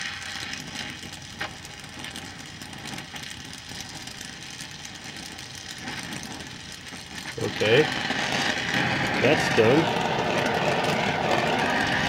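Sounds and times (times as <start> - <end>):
welding torch flame hissing: 0.0 - 12.0.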